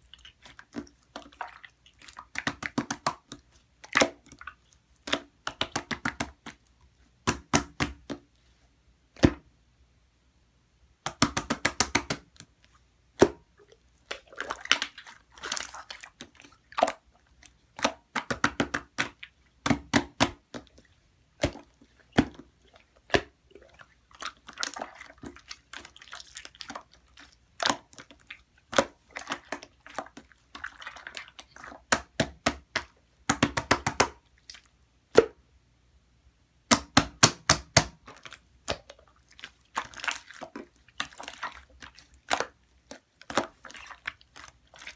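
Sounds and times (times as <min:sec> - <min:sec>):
slime squishing with sticky clicks: 0:00.0 - 0:08.3, 0:11.0 - 0:35.4, 0:36.6 - 0:44.9.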